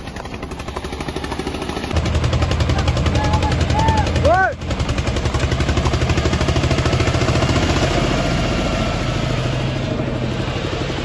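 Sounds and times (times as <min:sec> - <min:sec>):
diesel tractor engines chugging: 0:00.0 - 0:11.0.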